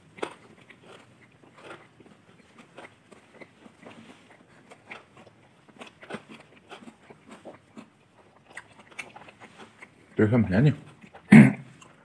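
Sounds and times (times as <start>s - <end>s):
people chewing food: 0.0s - 12.0s.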